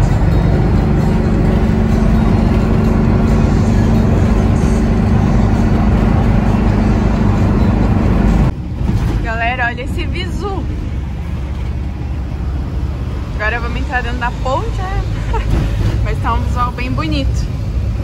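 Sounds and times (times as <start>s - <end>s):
road noise: 0.0s - 18.0s
van engine drone: 0.0s - 18.0s.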